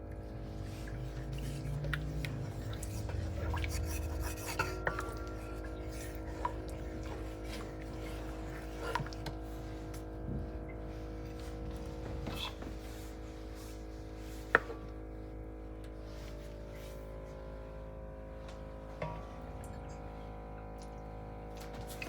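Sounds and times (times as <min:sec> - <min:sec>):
steady kitchen hum: 0:00.0 - 0:22.0.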